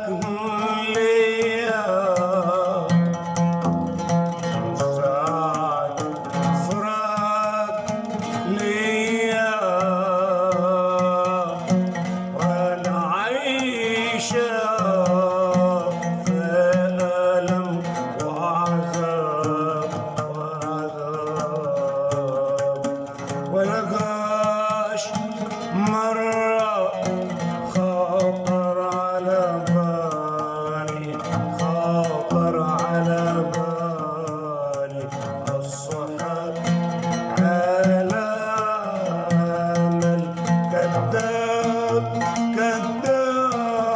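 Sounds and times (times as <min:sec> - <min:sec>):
song with plucked strings: 0:00.0 - 0:43.9.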